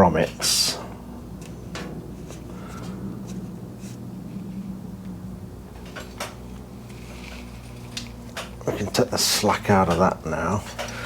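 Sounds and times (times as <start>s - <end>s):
steady low hum: 0.0s - 11.0s
small clicks and rustles of wires: 1.3s - 11.0s.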